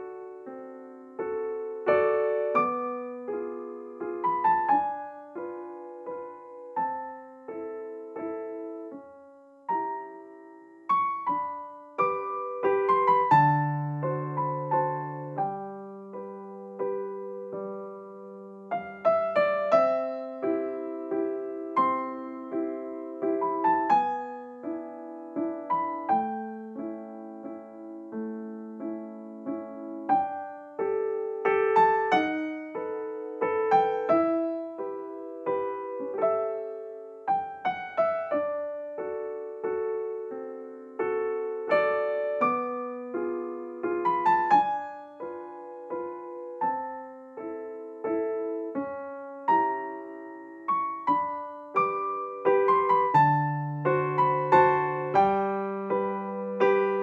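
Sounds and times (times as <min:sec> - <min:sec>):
solo piano melody: 0:00.0 - 0:57.0.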